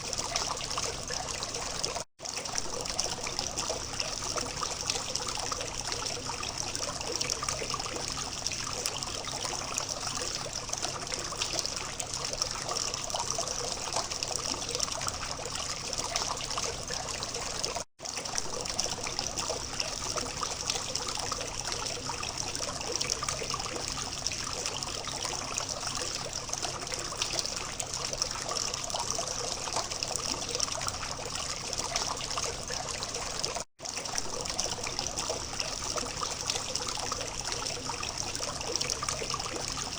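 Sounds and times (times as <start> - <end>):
fountain water trickling: 0.0 - 39.9.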